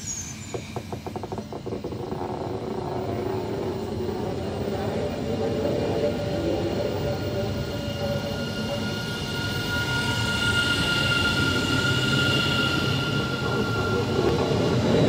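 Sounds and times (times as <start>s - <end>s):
high squeal: 0.0s - 5.5s, 6.1s - 15.0s
train rolling rumble: 0.0s - 15.0s.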